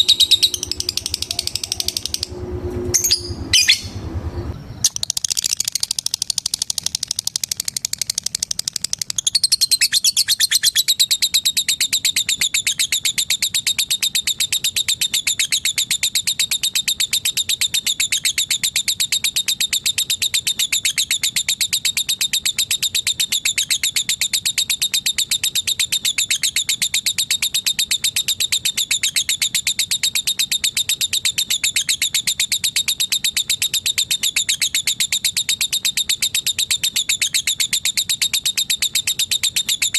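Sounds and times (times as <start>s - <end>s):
lovebird chattering: 0.0s - 2.4s, 3.0s - 4.0s, 4.8s - 39.9s.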